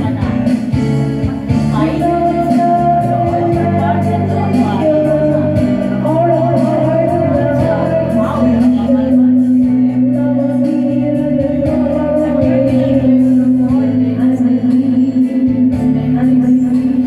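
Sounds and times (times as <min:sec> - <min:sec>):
karaoke backing track: 0:00.0 - 0:17.0
woman singing into microphone: 0:01.7 - 0:17.0.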